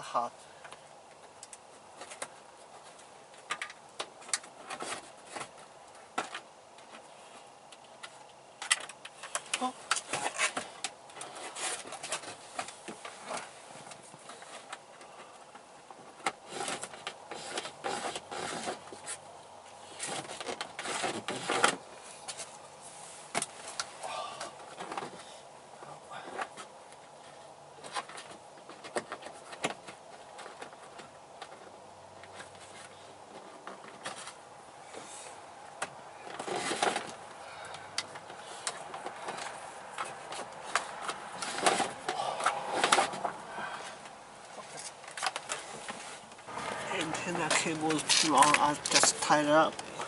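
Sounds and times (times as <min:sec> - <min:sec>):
plastic trim rustling and scraping: 0:01.2 - 0:24.0, 0:24.6 - 0:50.0.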